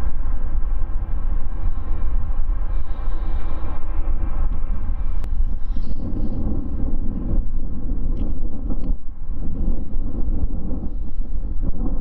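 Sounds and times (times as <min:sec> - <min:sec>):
aircraft tug rumble: 0:00.0 - 0:12.0
wind buffeting microphone: 0:00.0 - 0:12.0.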